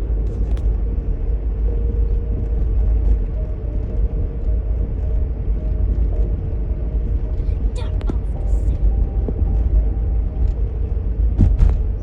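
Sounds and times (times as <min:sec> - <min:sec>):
deep low rumble: 0:00.0 - 0:12.0.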